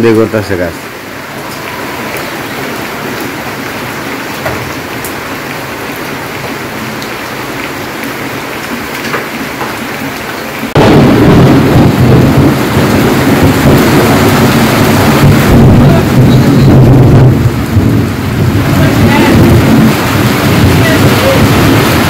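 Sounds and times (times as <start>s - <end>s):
heavy rain pouring off tin roof: 0.0s - 22.0s
steady rain falling: 0.0s - 22.0s.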